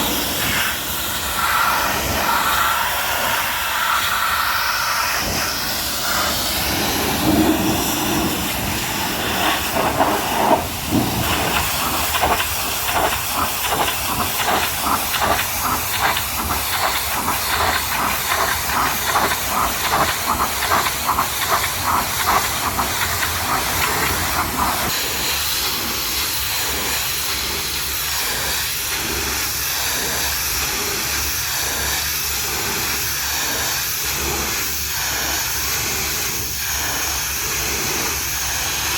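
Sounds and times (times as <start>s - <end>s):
pressure washer spray hissing: 0.0s - 38.9s.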